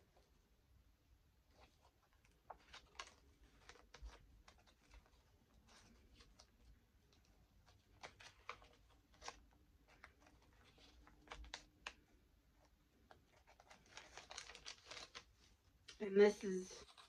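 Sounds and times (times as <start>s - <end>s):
paper pages rustling: 1.5s - 16.1s, 16.7s - 17.0s.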